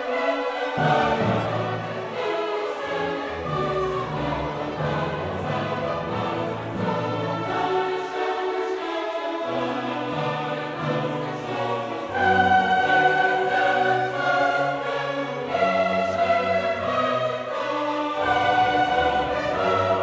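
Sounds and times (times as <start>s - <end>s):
choir singing held notes: 0.0s - 20.0s
orchestral music: 0.0s - 20.0s.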